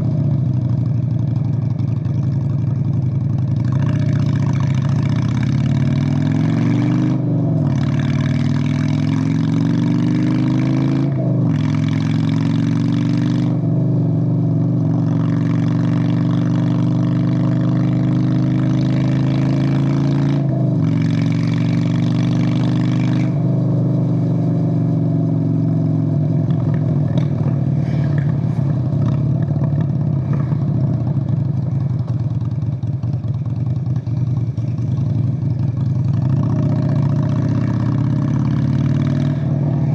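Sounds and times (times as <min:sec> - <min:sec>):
motorcycle engine revving and upshifting: 0:00.0 - 0:39.9.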